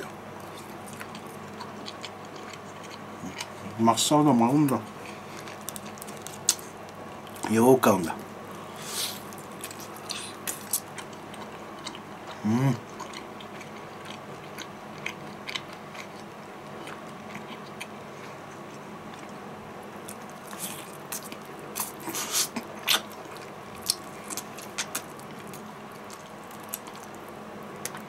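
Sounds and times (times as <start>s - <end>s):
person chewing fried chicken: 0.0s - 3.8s, 4.6s - 7.6s, 8.5s - 28.0s.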